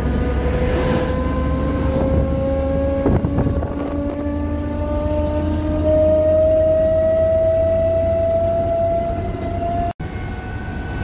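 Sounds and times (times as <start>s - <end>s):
car engine and drivetrain whine: 0.0s - 11.0s.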